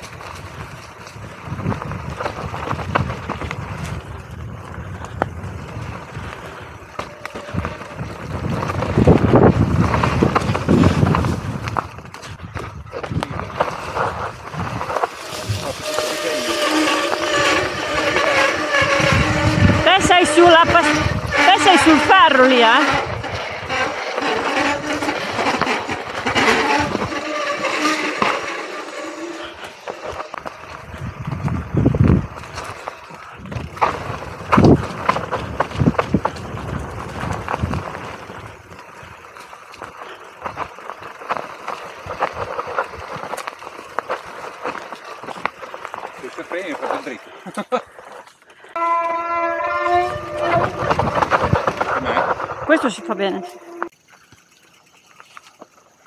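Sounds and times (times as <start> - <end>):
wind noise on microphone: 0.0 - 28.6, 29.4 - 44.1, 48.8 - 53.9
bike rattling over bumps: 0.0 - 56.0
bike tyres rumbling on dirt: 0.0 - 56.0.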